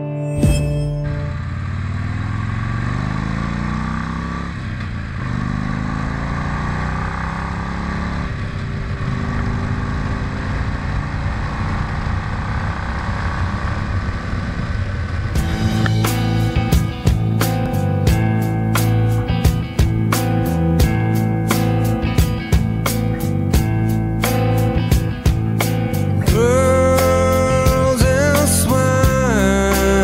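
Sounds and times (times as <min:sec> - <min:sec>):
motorcycle engine accelerating: 0:00.5 - 0:30.0.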